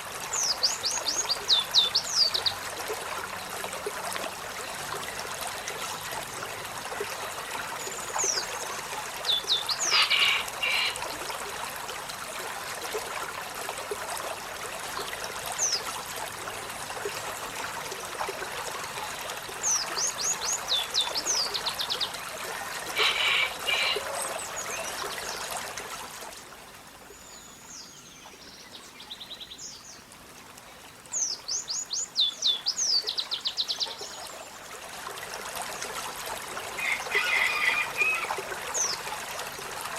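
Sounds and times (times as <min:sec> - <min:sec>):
rush like running water: 0:00.0 - 0:39.9.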